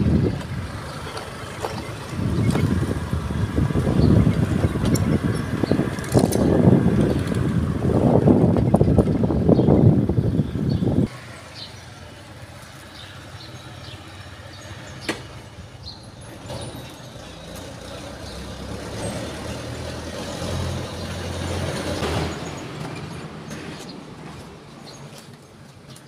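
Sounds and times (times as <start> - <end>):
street background noise: 0.0 - 26.0.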